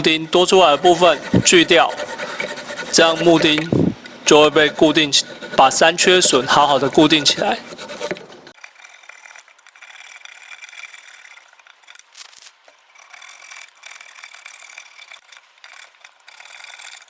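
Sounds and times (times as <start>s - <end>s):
hand saw rasping through wood: 0.0s - 17.0s.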